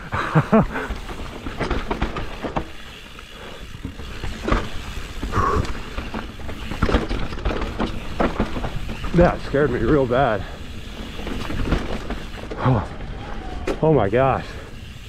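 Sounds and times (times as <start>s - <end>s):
bike knocking and rattling: 0.0s - 15.0s.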